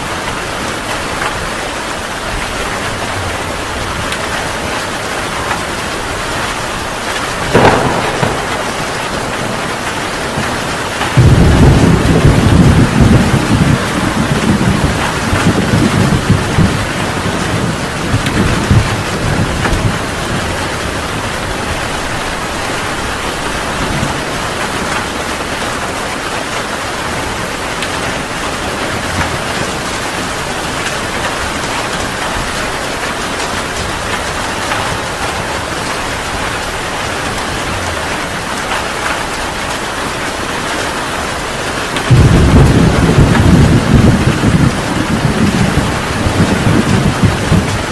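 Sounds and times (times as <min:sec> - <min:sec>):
heavy rain falling: 0:00.0 - 0:47.9
thunder rumbling: 0:01.0 - 0:26.3, 0:26.9 - 0:47.9.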